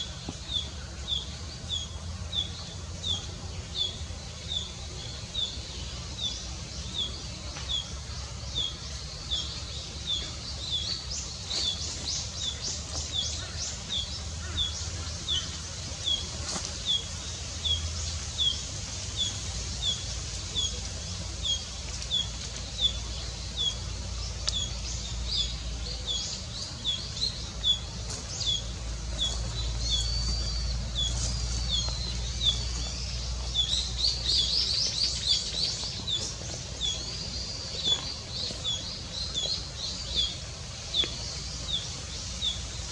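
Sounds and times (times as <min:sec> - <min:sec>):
faint low rumble: 0:00.0 - 0:42.9.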